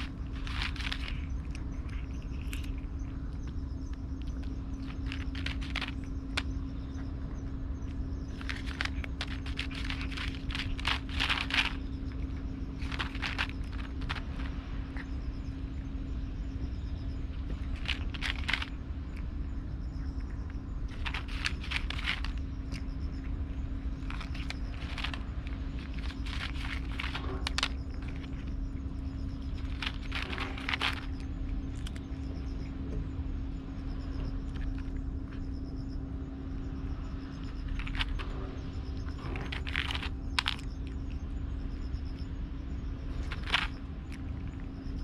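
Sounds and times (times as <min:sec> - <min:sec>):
cat crunching dry food: 0:00.0 - 0:15.6, 0:17.3 - 0:32.8, 0:33.8 - 0:35.6, 0:37.4 - 0:42.2, 0:43.0 - 0:45.0
steady low hum: 0:00.0 - 0:45.0.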